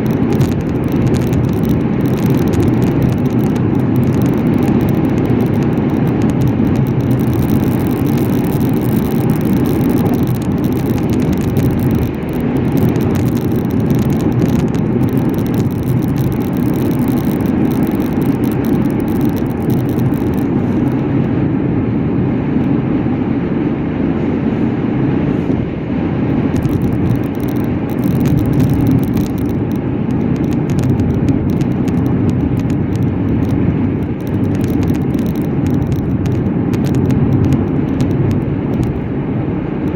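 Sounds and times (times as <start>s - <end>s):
car driving road noise: 0.0s - 39.9s.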